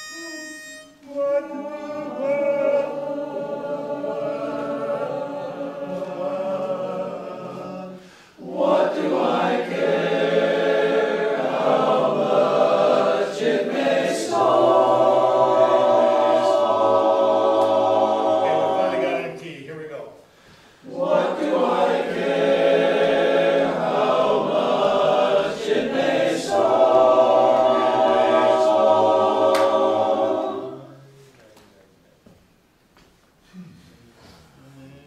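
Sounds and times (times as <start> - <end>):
choir singing a cappella: 0.0 - 19.6, 20.7 - 31.3.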